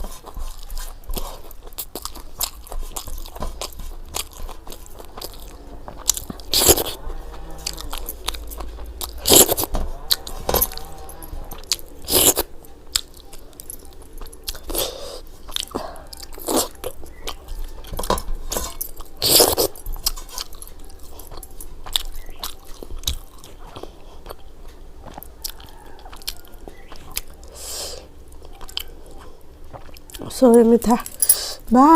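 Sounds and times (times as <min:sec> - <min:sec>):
person chewing and biting: 0:00.0 - 0:30.4.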